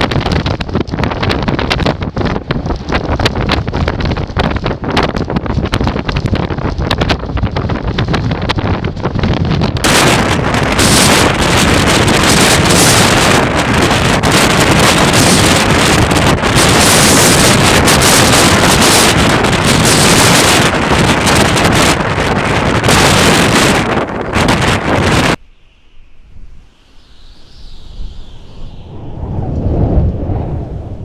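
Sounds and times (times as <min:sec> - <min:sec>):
strong wind on microphone: 0:00.0 - 0:31.0.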